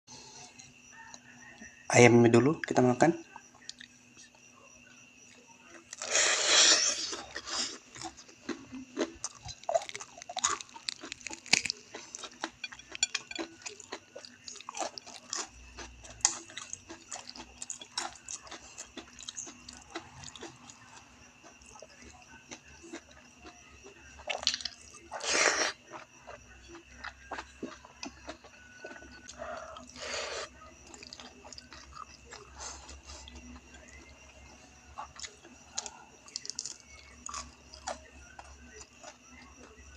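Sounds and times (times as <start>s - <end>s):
chewing crispy fried chicken: 3.2s - 39.9s.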